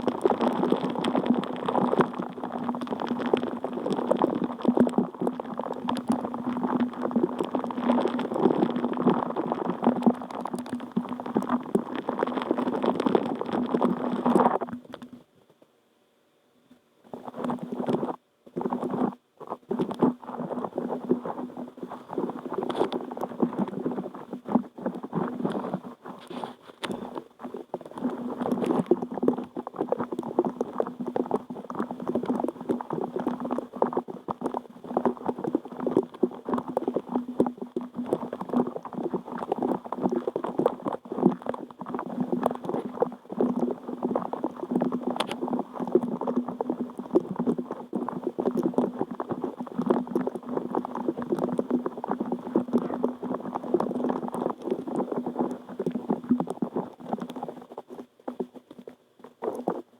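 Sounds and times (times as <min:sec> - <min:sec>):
water bubbling: 0:00.0 - 0:15.2, 0:17.1 - 0:59.9.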